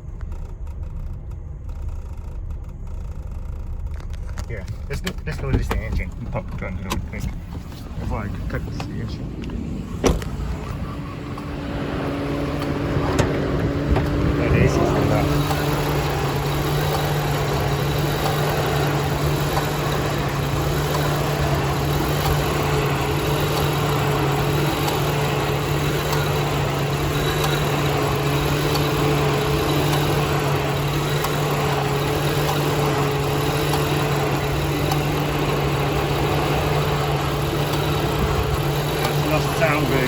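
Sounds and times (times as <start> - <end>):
car engine idling with misfire: 0.0 - 40.0.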